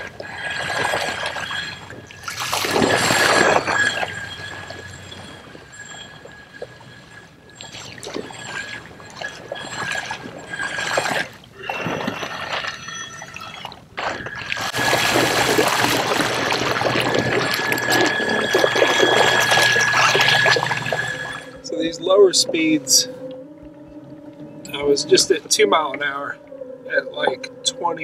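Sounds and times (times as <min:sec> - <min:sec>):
thin steady high tone: 0:00.0 - 0:28.0
water splashing and trickling: 0:00.0 - 0:28.0.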